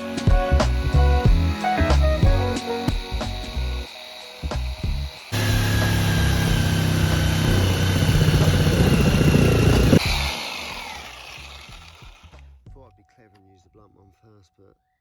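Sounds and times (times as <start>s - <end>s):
power tool motor cutting: 0.0s - 12.6s.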